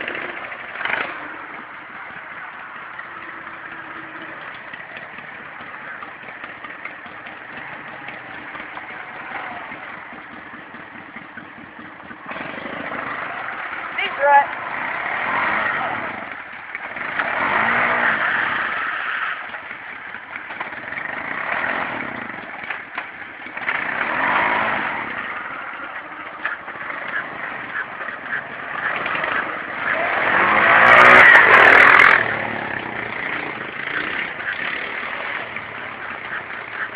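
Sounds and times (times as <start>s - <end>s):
lawn mower engines revving: 0.0s - 36.9s.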